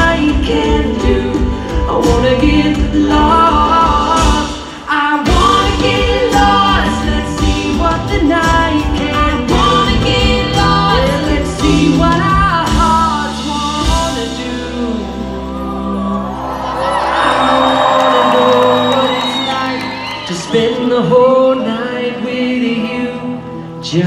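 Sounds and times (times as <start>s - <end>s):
live band playing pop song: 0.0s - 24.0s
person singing: 0.0s - 24.0s.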